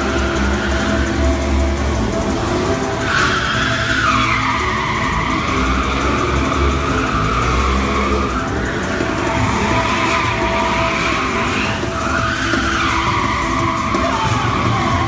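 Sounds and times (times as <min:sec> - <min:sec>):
car engine noise: 0:00.0 - 0:15.0
tyres squealing in skid: 0:00.0 - 0:15.0.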